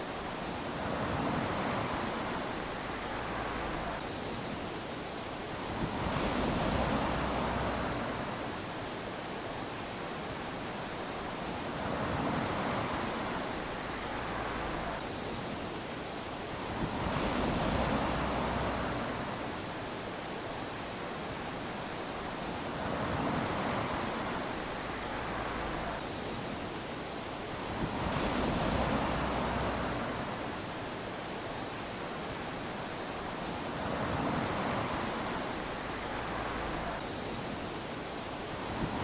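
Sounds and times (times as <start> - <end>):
small waves lapping on sand: 0.0 - 39.0.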